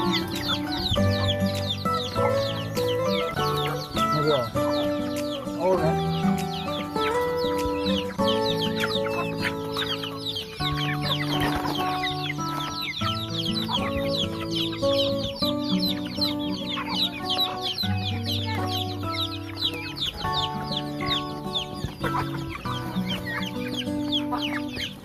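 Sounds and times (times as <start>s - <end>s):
background music with held chords: 0.0s - 25.0s
chickens peeping: 0.0s - 25.0s.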